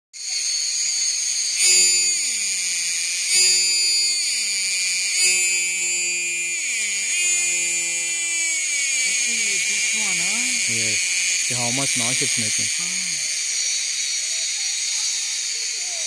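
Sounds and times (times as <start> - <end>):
cicada buzzing: 0.2 - 16.0.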